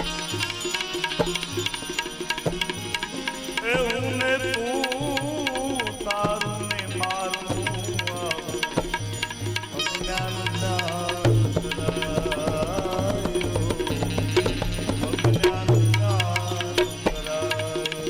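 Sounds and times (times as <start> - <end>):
tabla playing: 0.0 - 18.0.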